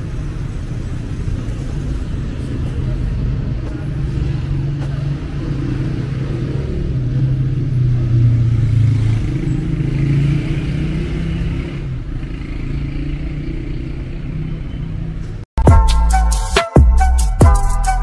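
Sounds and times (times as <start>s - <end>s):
passing cars and motorbikes: 0.0s - 15.5s.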